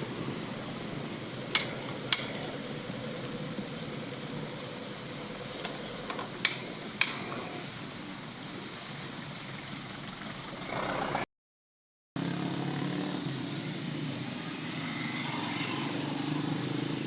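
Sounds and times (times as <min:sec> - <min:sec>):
passing traffic: 0:00.0 - 0:11.3, 0:12.2 - 0:17.0.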